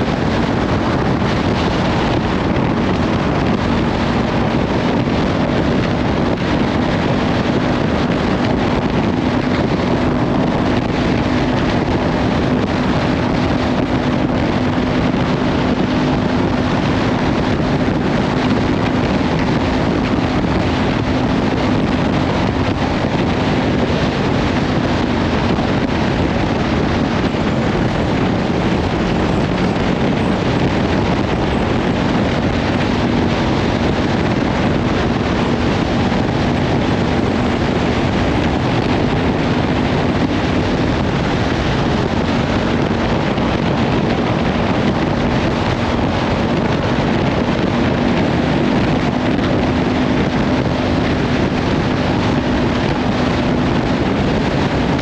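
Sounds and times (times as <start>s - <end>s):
motorcycle engine humming: 0.0s - 55.0s
wind buffeting microphone: 0.0s - 55.0s.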